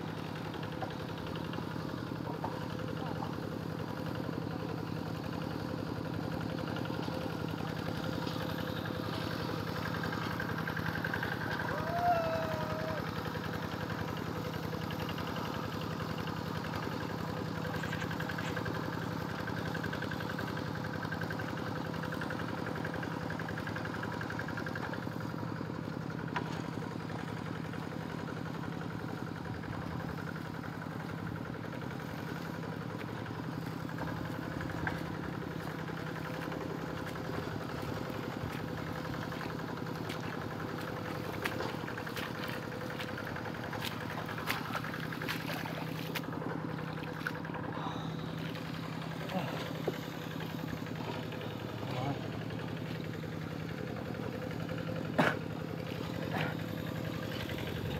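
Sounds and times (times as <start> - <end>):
hand tractor engine droning: 0.0 - 57.9.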